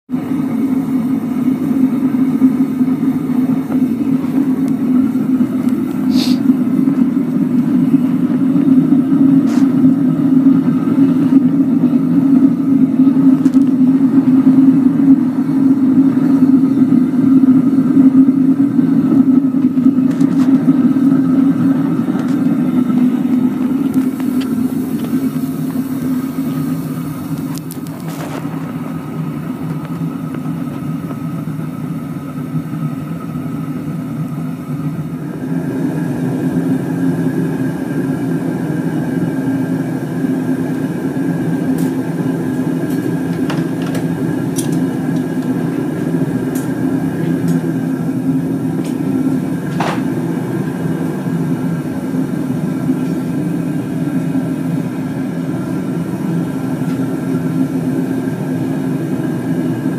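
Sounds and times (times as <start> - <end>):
gas burner flame rushing: 0.1 - 59.9.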